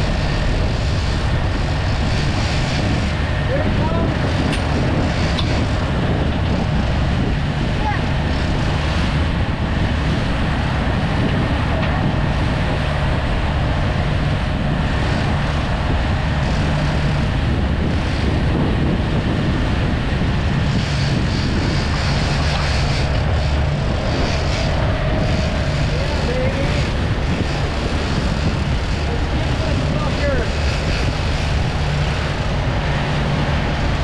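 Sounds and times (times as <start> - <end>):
boat engine drone: 0.0 - 34.0.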